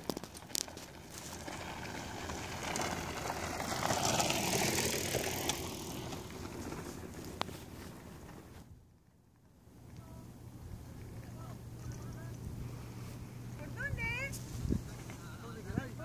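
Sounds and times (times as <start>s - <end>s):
bike tyres on gravel: 0.0s - 9.0s, 9.8s - 16.0s.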